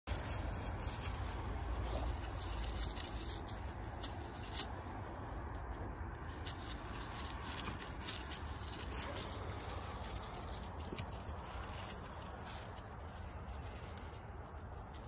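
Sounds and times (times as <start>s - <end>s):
dry leaves rustling and crackling: 0.1s - 15.0s
steady low rumble: 0.1s - 15.0s.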